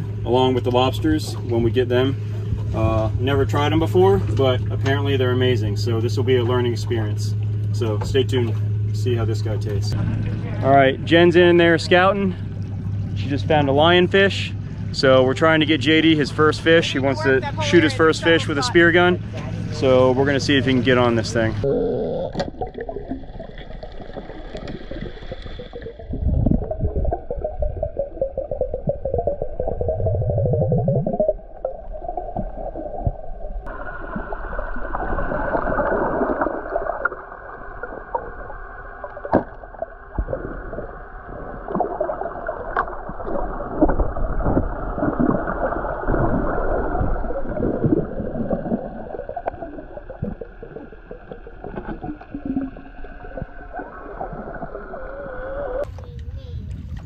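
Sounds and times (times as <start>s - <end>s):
muffled underwater rush: 0.0s - 57.0s.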